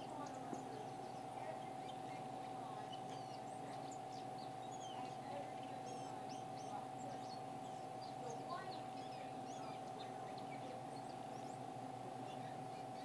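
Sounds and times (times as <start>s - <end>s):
faint steady hum: 0.0s - 13.0s
songbirds chirping: 0.0s - 13.0s.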